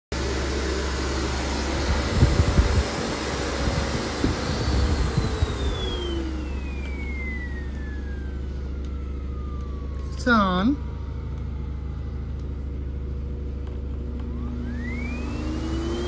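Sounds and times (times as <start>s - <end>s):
vacuum cleaner running: 0.1s - 16.0s.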